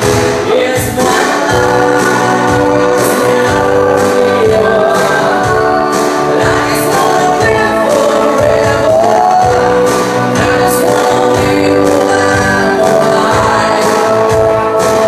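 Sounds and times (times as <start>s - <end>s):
amplified singing: 0.0s - 15.0s
drum beat: 0.0s - 15.0s
keyboard: 0.0s - 15.0s.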